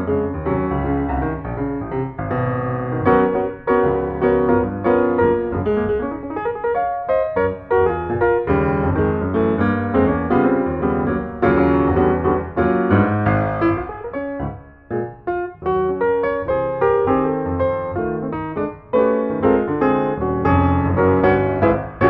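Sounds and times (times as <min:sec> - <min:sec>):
lively piano music: 0:00.0 - 0:22.0.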